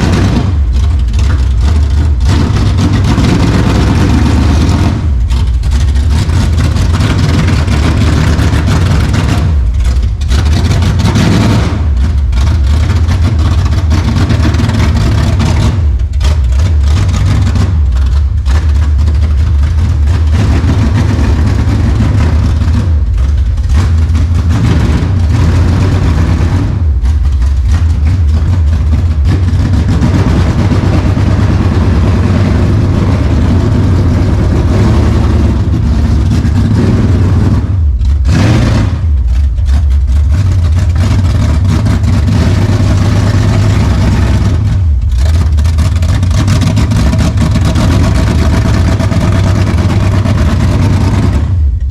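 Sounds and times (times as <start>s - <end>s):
car engine running loudly: 0.0s - 51.9s.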